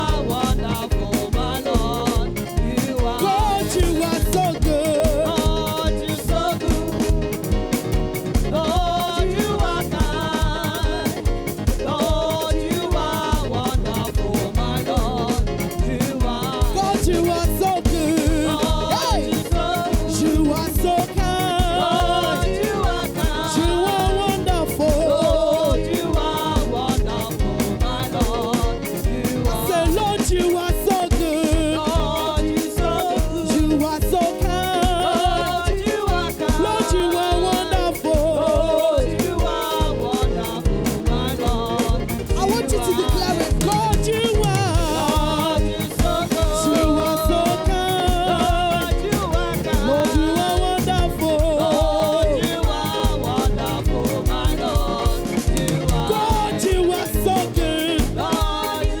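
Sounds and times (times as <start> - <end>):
band playing upbeat dance song: 0.0 - 59.0
voices singing along: 0.0 - 59.0.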